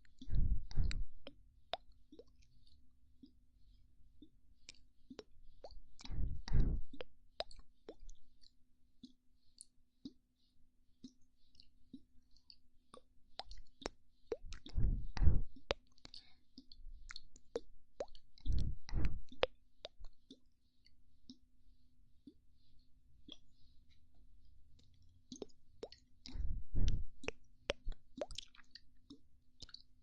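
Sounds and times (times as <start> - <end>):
wet lip pops and mouth clicks: 0.0 - 3.4, 4.2 - 10.2, 11.0 - 21.4, 23.2 - 23.6, 24.8 - 29.9.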